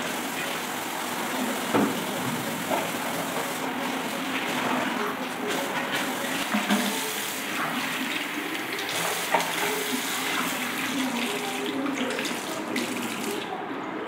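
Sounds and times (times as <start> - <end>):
plastic bottle being rinsed: 0.0 - 13.5
tap water splashing into basin: 1.2 - 13.5.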